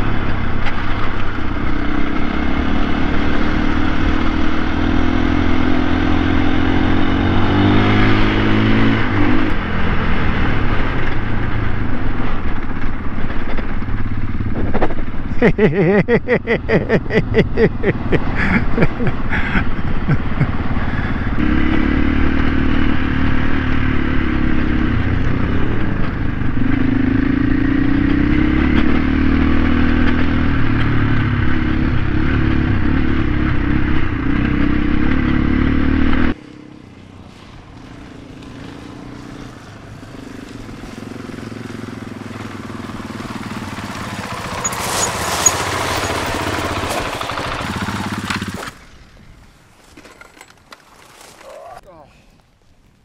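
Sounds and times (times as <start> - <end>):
dirt bike engine running: 0.0 - 49.0
distant dirt bikes approaching: 0.0 - 52.3.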